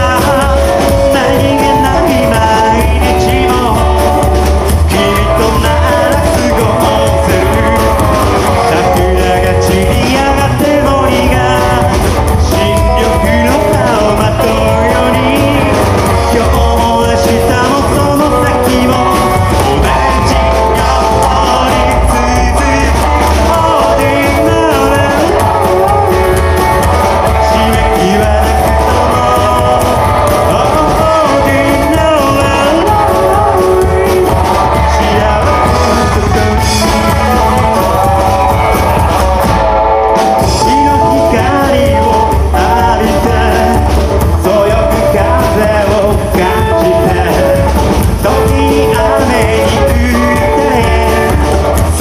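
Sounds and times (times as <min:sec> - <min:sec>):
person singing: 0:00.0 - 0:52.0
rockabilly band playing live: 0:00.0 - 0:52.0.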